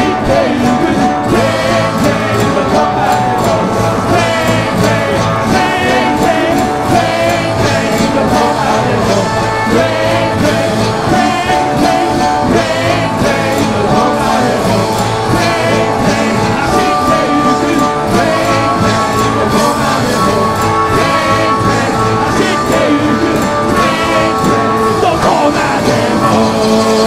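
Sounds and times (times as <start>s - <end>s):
man singing into microphone: 0.0s - 27.0s
rock band playing: 0.0s - 27.0s.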